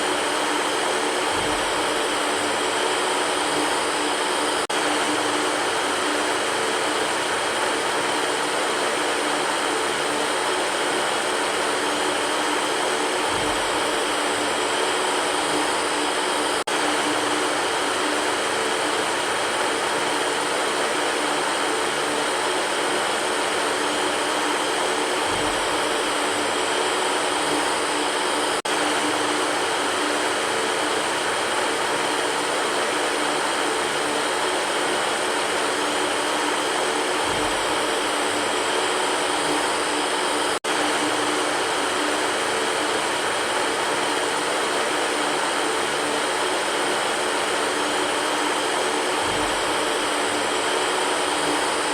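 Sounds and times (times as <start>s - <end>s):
electric fan running: 0.0s - 51.9s.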